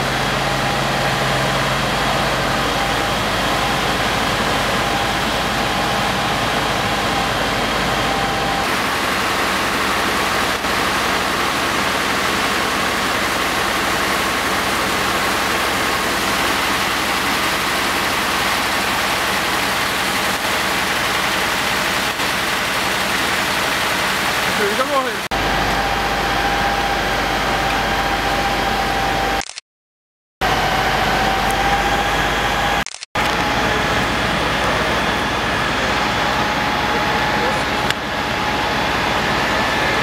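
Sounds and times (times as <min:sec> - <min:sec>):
fire engines running: 0:00.0 - 0:29.4, 0:30.4 - 0:40.0.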